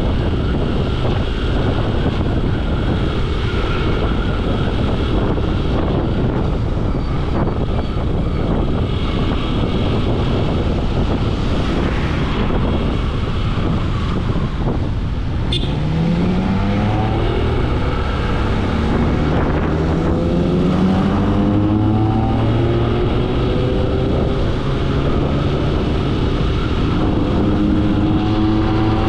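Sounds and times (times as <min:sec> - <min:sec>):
road rumble: 0:00.0 - 0:29.0
wind noise: 0:00.0 - 0:29.0.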